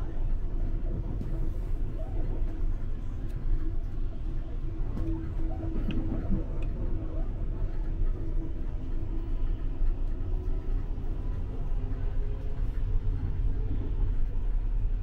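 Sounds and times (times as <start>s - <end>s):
electric train rumble inside carriage: 0.0s - 15.0s.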